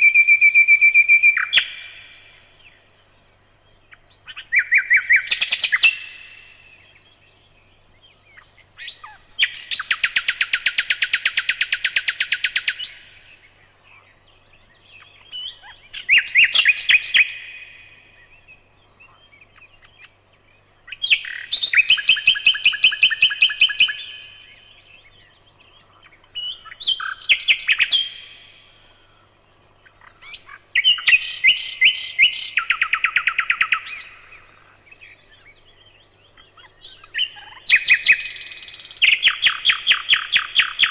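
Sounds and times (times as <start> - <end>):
nightingale singing: 0.0 - 40.9.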